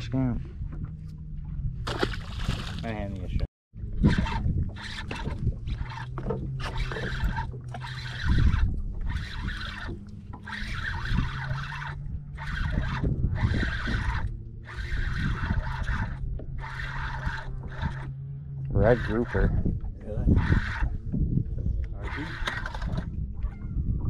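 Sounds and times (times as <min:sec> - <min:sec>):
low mechanical hum: 0:00.0 - 0:24.0
water sloshing around boat: 0:00.0 - 0:24.0.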